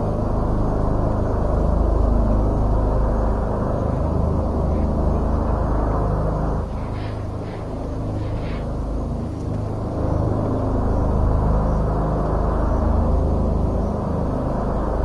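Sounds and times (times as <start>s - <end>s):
deep rumbling drone: 0.0s - 15.0s.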